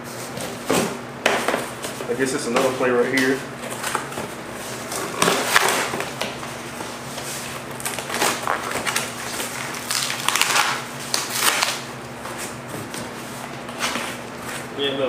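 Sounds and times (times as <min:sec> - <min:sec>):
cardboard rustling and scraping: 0:00.0 - 0:10.6, 0:11.2 - 0:14.7
box fan humming: 0:00.0 - 0:15.0.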